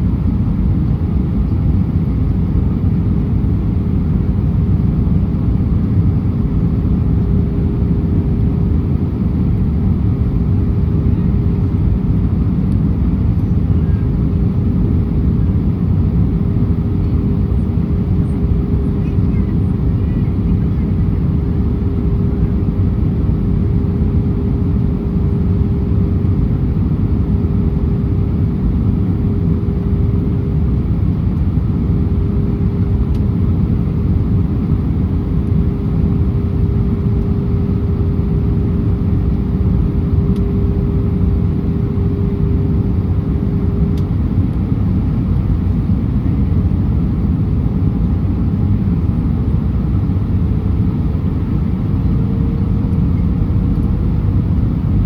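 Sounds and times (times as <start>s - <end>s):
airliner cabin roar: 0.0s - 55.0s.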